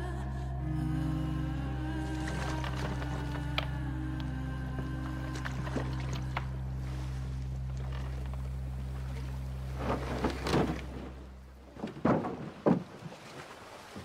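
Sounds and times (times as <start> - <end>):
low steady music drone: 0.0 - 11.9
oars splashing in water: 1.8 - 14.0.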